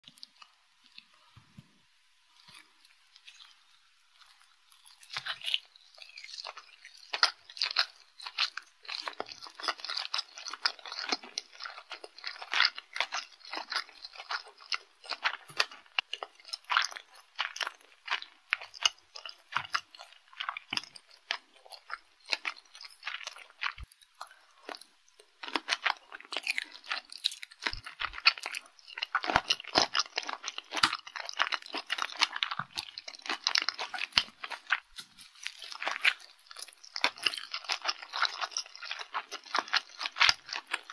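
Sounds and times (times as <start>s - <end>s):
chewing rice ball: 0.0s - 1.4s, 2.2s - 40.9s.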